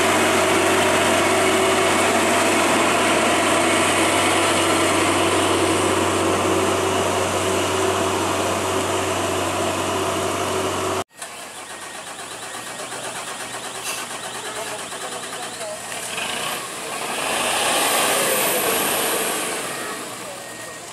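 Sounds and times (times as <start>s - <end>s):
quieter truck engine: 0.0s - 20.9s
truck diesel engine labouring: 0.0s - 20.9s.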